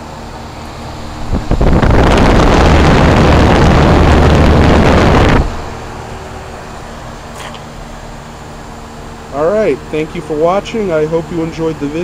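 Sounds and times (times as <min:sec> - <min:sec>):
fan air buffeting microphone: 0:00.0 - 0:12.0
heat pump humming with tones: 0:00.0 - 0:12.0.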